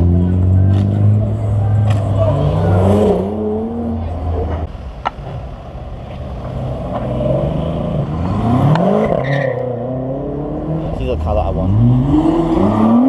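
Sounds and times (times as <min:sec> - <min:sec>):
car engine revving: 0:00.0 - 0:04.7, 0:06.2 - 0:13.0.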